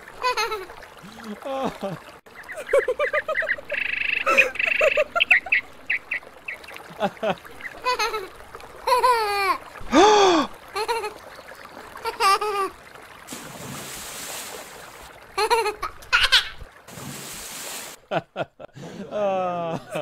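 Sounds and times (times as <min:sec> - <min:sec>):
water splashing: 0:00.0 - 0:18.2.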